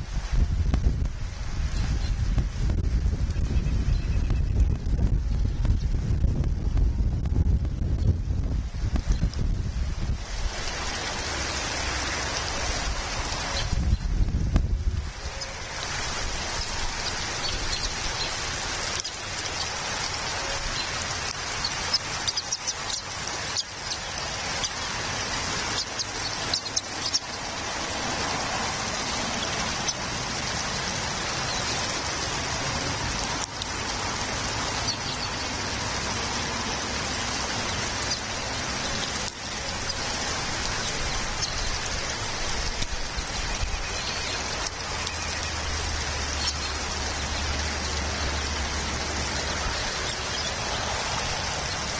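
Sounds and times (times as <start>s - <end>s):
sharp raindrop hits: 0.0s - 51.9s
steady rain falling: 0.0s - 51.9s.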